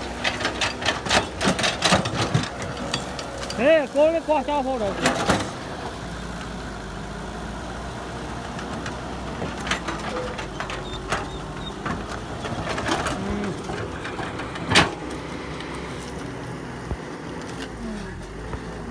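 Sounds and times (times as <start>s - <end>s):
heavy machine engine running: 0.0s - 18.9s.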